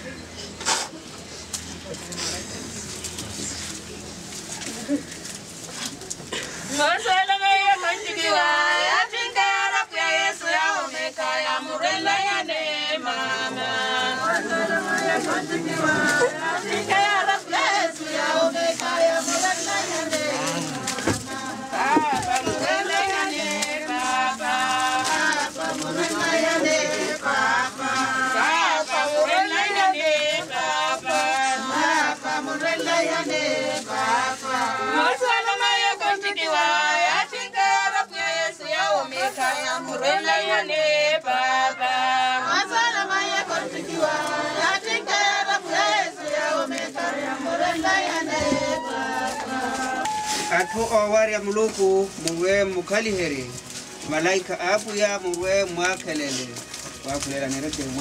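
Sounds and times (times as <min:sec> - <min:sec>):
people singing a slow lament: 0:06.3 - 0:57.1.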